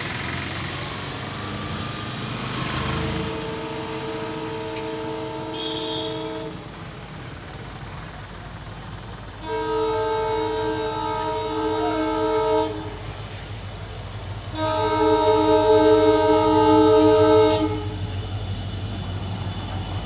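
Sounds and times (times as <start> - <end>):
diesel locomotive humming: 0.0 - 20.0.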